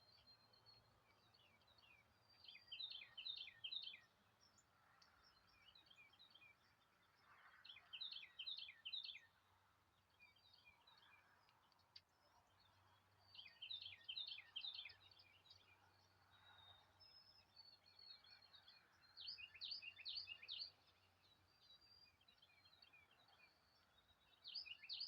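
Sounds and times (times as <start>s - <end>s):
faint songbirds chirping: 0.0s - 25.0s.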